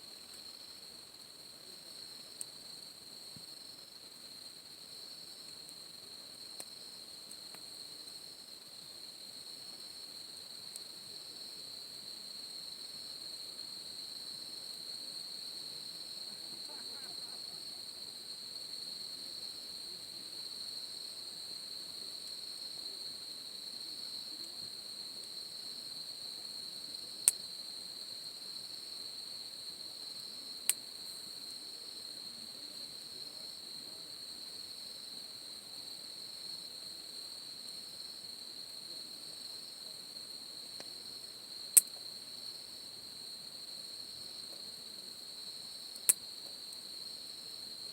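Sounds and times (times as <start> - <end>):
crickets trilling: 0.2 - 47.9.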